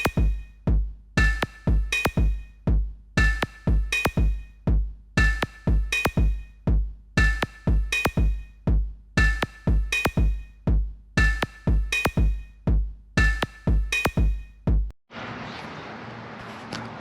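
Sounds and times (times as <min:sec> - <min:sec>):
drum machine beat: 0:00.0 - 0:14.9.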